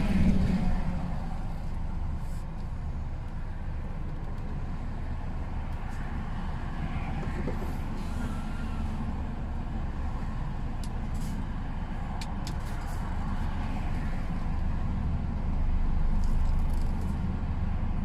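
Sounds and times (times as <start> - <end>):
highway traffic passing: 0.0 - 18.0
low engine rumble: 0.0 - 18.0.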